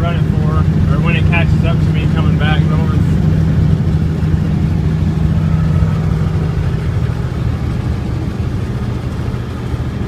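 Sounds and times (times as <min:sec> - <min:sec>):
engine and road drone in cab: 0:00.0 - 0:10.0.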